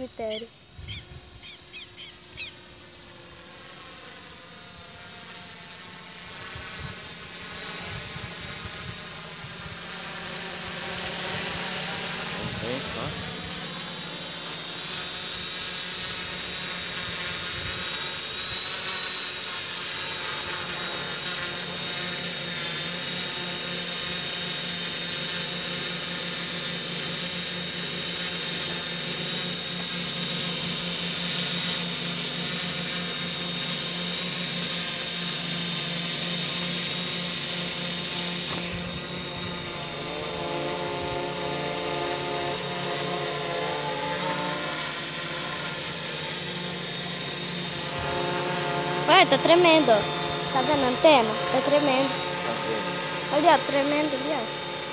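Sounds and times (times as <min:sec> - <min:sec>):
drone propellers whining: 0:00.0 - 0:54.9.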